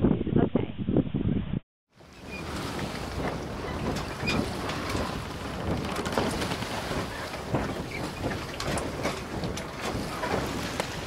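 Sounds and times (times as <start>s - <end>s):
wind rumbling on microphone: 0.0s - 11.0s
crackles and knocks: 2.0s - 11.0s.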